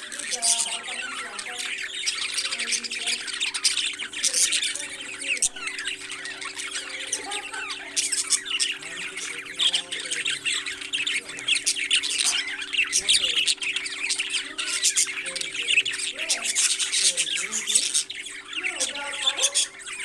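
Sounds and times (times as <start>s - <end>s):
parrots squawking and chirping: 0.0s - 20.0s
steady low hum: 0.0s - 20.0s.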